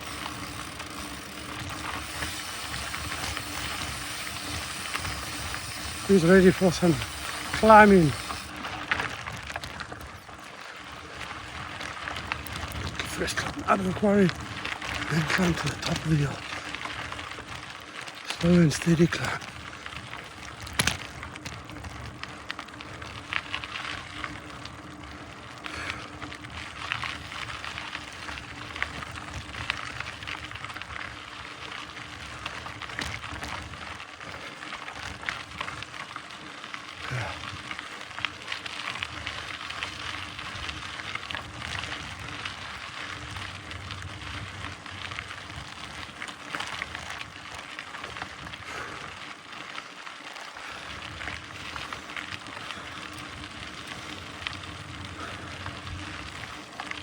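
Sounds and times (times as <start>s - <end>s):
bike tyres crunching on gravel: 0.0s - 57.0s.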